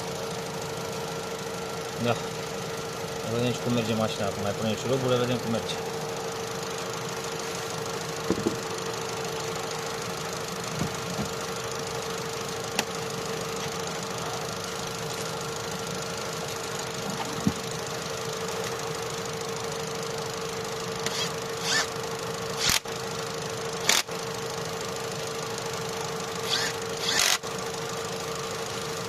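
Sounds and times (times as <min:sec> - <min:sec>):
car engine idling with whine: 0:00.0 - 0:29.0.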